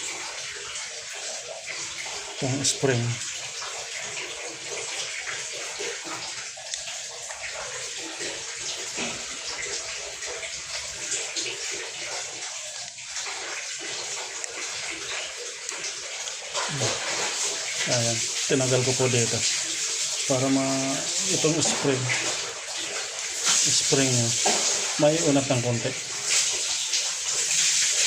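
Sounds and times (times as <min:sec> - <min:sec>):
water running and splashing: 0:00.0 - 0:28.0.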